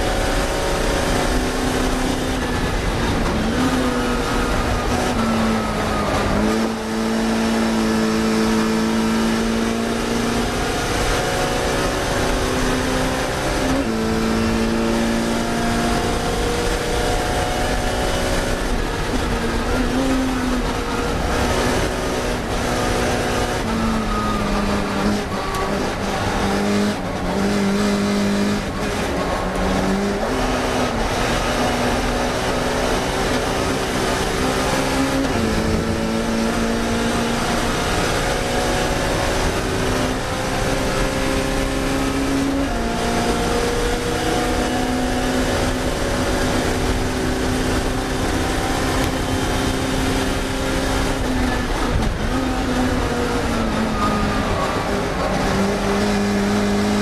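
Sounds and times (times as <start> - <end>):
racing car engine shifting gears: 0.0 - 57.0.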